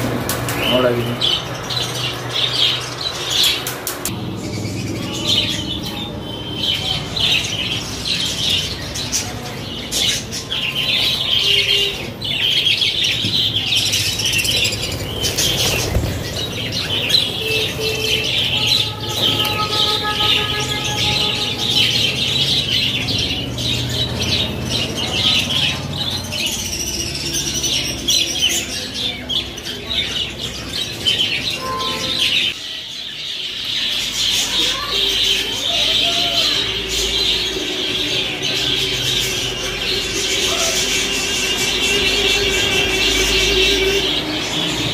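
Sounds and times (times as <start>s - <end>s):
flock of budgerigars chattering: 0.3s - 44.9s.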